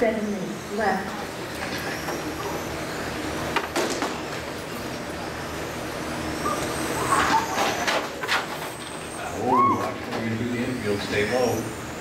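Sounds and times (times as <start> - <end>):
tyre and hall noise: 0.0 - 12.0.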